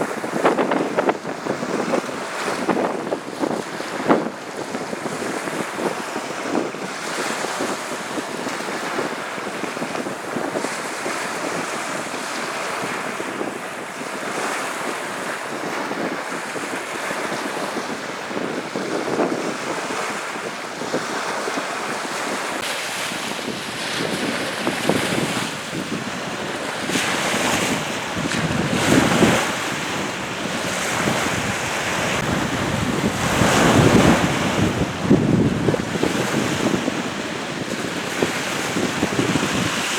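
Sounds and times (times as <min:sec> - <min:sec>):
waves washing on shore: 0:00.0 - 0:39.9
wind buffeting microphone: 0:00.0 - 0:39.9.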